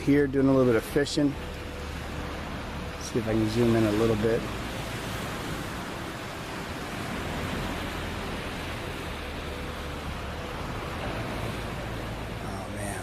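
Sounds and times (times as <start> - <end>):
ocean surf washing: 0.0 - 13.0
wind rumble on microphone: 0.0 - 13.0.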